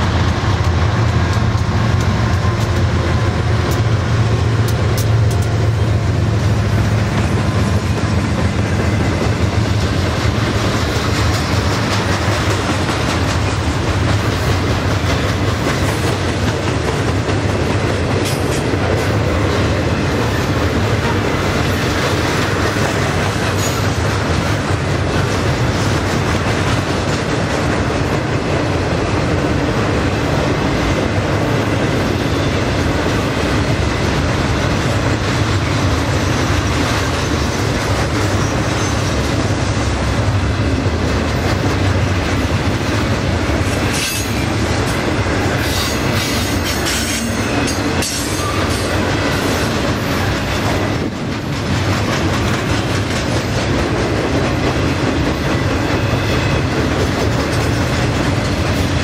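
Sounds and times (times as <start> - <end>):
train wheels rumbling and clattering: 0.0 - 59.0.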